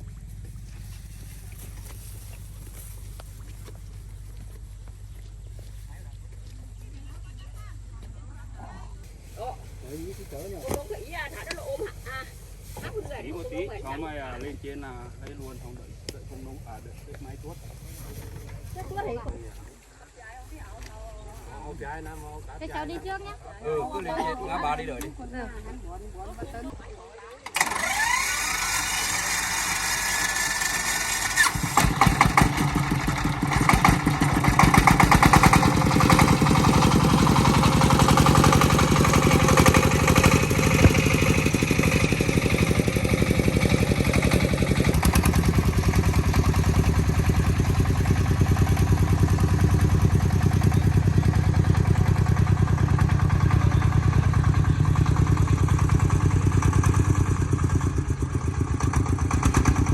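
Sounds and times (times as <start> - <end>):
diesel engine chugging: 0.0 - 19.3, 20.5 - 59.9.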